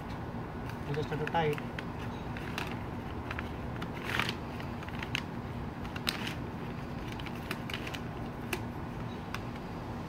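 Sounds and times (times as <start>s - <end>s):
low background hum: 0.0s - 10.0s
paper bag crinkling: 0.7s - 9.0s.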